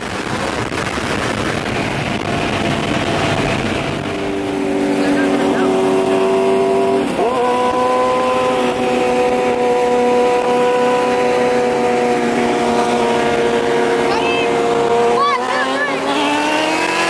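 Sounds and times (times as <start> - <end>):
car engine running: 0.0 - 17.0
motorcycle engine running: 0.0 - 17.0.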